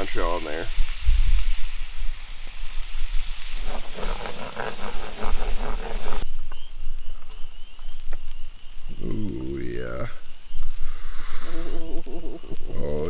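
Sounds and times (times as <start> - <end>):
fish sizzling in a pan: 0.0 - 6.3, 7.6 - 13.0.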